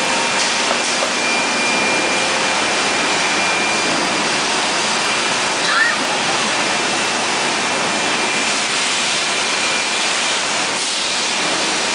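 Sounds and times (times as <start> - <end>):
loud rushing machine noise: 0.0 - 11.9.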